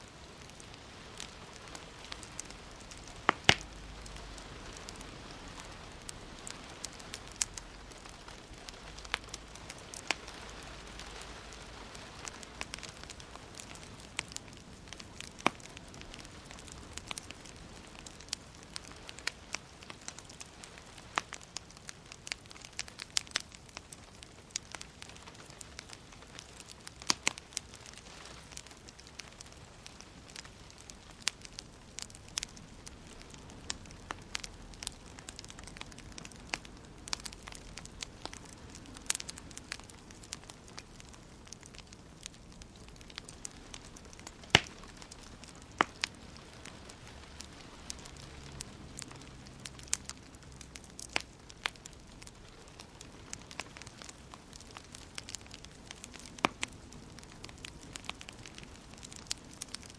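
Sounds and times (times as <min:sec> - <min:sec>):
soft hiss: 0:00.0 - 0:59.8
wood fire crackling: 0:00.0 - 0:59.9.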